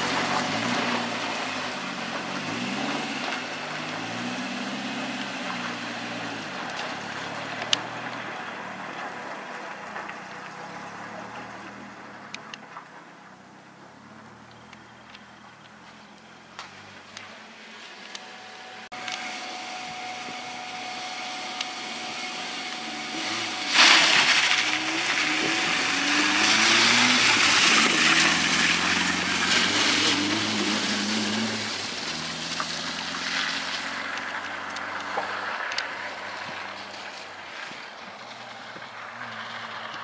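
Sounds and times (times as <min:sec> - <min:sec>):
rally car engine accelerating: 0:00.0 - 0:40.0
rush of tyres on gravel: 0:00.0 - 0:40.0.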